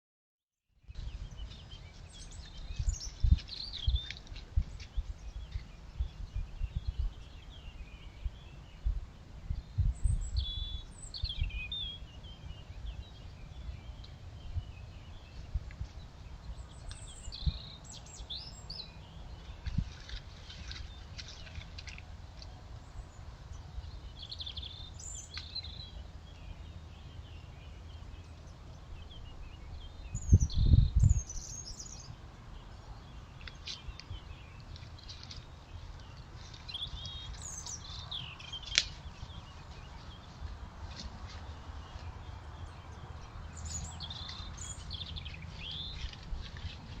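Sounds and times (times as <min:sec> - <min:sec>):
small birds chirping and trilling: 0:00.9 - 0:47.0.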